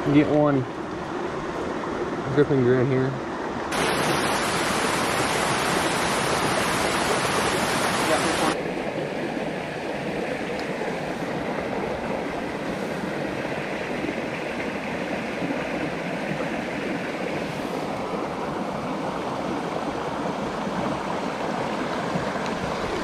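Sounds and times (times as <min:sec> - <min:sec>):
creek flowing over rocks: 0:00.0 - 0:23.0.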